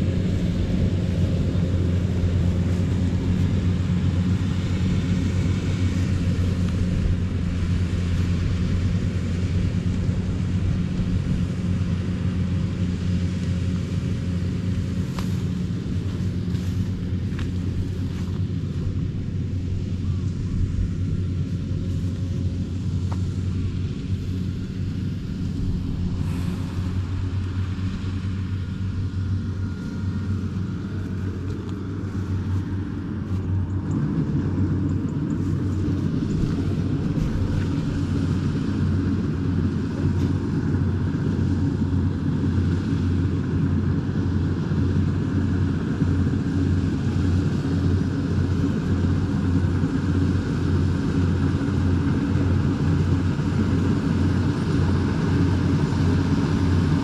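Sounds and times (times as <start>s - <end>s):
combine harvester engine humming: 0.0s - 57.0s.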